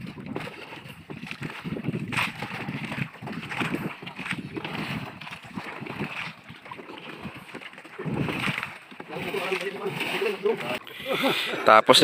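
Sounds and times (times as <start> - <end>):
wind on microphone: 0.0 - 11.1
water splashing against boat hull: 0.0 - 11.3.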